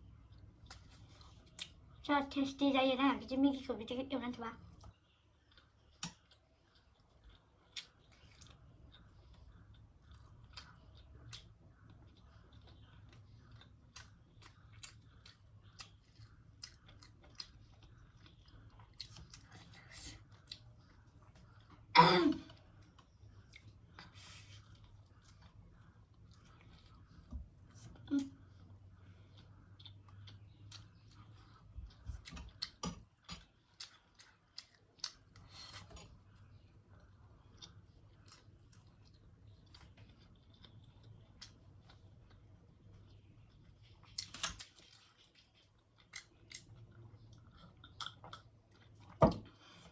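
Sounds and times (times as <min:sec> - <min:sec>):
person chewing food: 0:00.0 - 0:02.1, 0:04.8 - 0:49.9.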